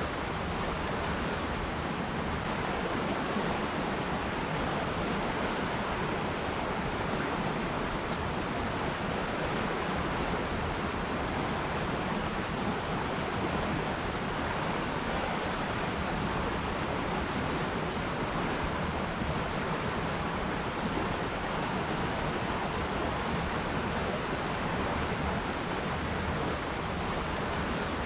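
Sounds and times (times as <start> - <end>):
river water rushing and splashing: 0.0 - 28.0.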